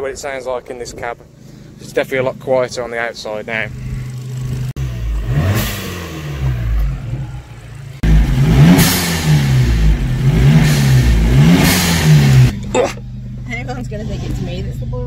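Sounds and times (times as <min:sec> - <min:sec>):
turbo car engine revving: 0:01.6 - 0:15.0.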